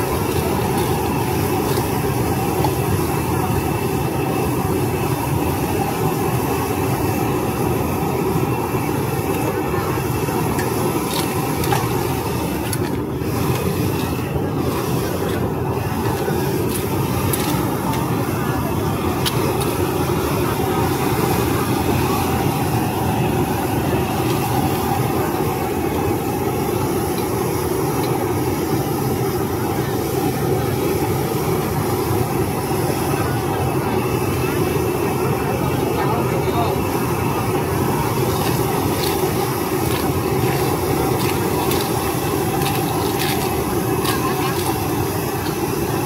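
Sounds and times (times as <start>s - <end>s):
exhaust fan running: 0.0s - 46.0s
gas wok burner roaring: 0.0s - 46.0s.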